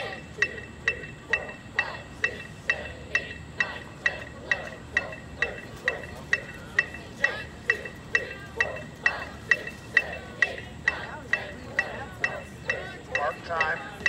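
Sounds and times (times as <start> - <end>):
electronic metronome beeping: 0.0 - 14.0
faint voices: 0.0 - 14.0.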